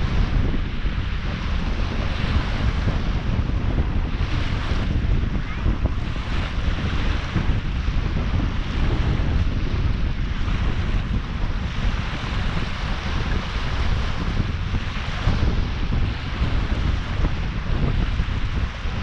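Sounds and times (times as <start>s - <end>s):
small waves breaking on shore: 0.0s - 19.0s
wind buffeting microphone: 0.0s - 19.0s.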